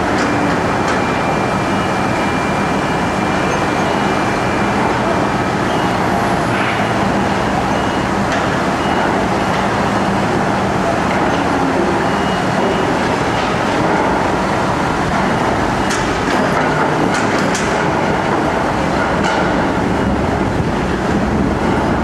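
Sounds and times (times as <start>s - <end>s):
heavy construction machinery running: 0.0s - 22.0s.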